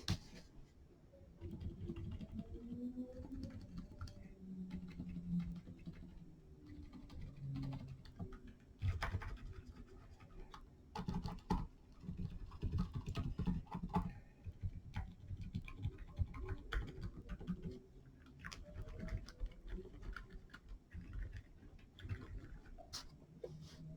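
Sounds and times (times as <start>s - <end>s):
typing on mechanical keyboard: 1.4s - 22.8s.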